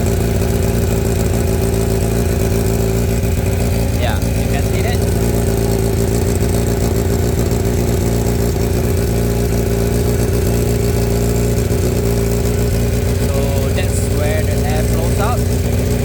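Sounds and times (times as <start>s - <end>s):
exhaust leaking at joint: 0.0s - 16.0s
motorcycle engine idling: 0.0s - 16.0s.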